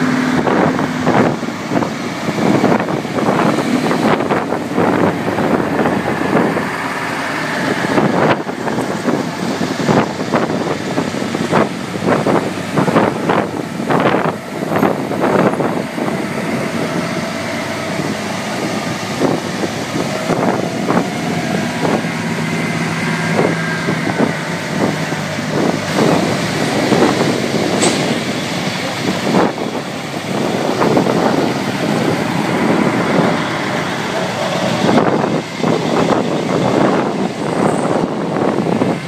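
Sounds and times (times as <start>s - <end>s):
heavy diesel trucks driving past: 0.0s - 39.0s
wind buffeting microphone: 0.0s - 39.0s.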